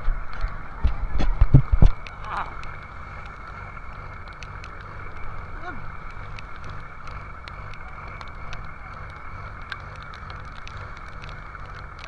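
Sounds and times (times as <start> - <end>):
boat engine rumbling: 0.0 - 12.0
sharp ticks: 1.8 - 12.0.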